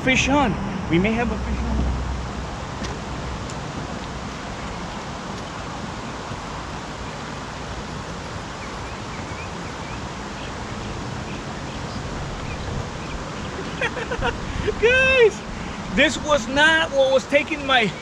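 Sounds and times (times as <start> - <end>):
wind on microphone: 0.0 - 16.6.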